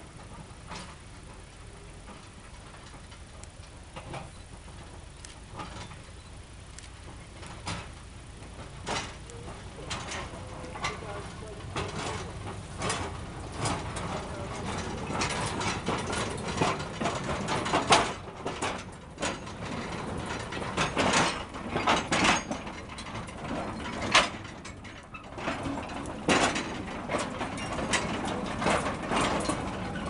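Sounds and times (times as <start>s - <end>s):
low train rumble: 0.0s - 30.0s
wagons clanking and knocking: 0.0s - 30.0s.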